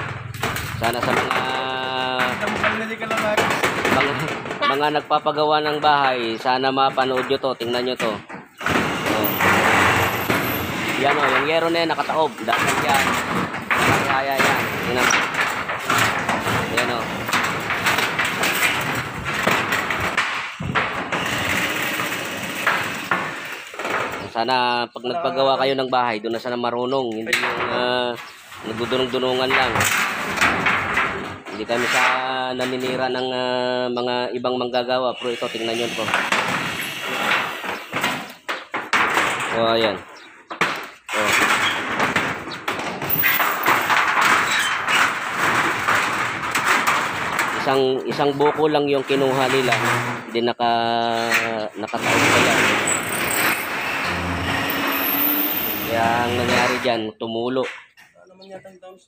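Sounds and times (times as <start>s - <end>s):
metal roofing sheets rattling: 0.0s - 59.0s.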